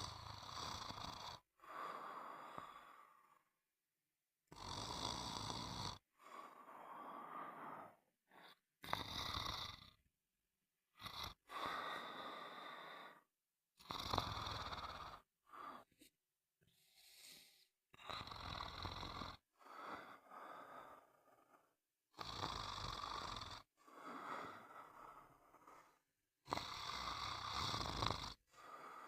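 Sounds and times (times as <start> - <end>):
snoring: 0.0 - 3.6, 4.5 - 10.1, 10.9 - 15.9, 17.3 - 29.0.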